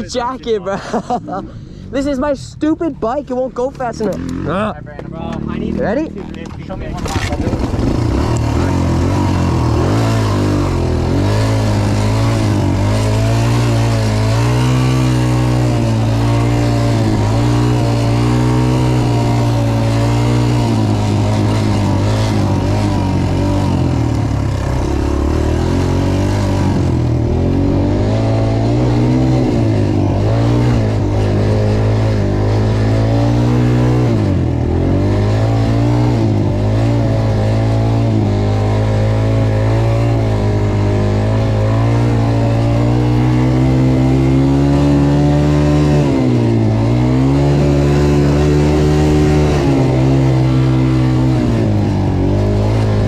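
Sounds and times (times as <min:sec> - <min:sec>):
dirt bike engine revving: 0:02.0 - 0:53.0.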